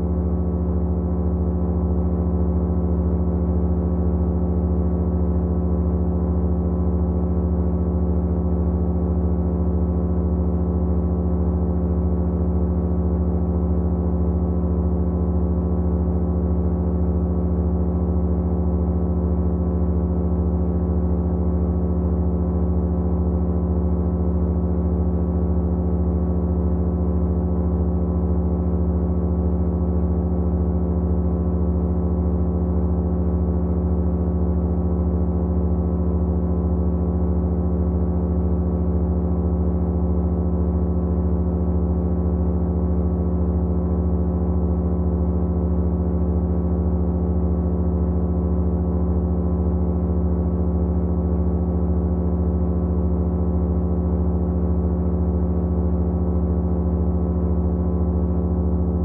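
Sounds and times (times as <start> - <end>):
low hum of motors: 0.0 - 59.0.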